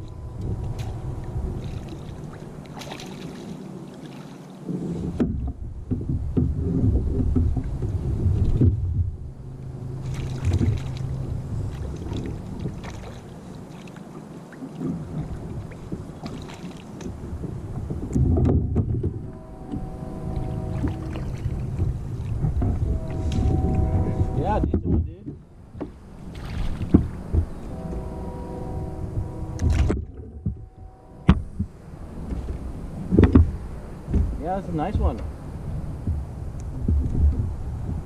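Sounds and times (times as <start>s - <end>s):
wind on microphone: 0.0s - 3.7s, 4.6s - 13.7s, 14.6s - 38.0s
water splashing against kayak: 0.0s - 28.2s, 28.9s - 38.0s.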